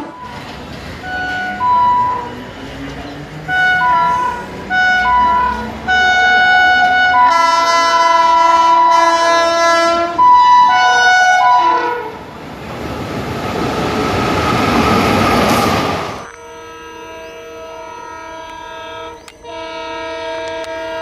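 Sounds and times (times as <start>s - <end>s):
locomotive multi-tone horn: 0.0s - 12.3s, 16.2s - 21.0s
train coaches rushing past: 0.0s - 21.0s.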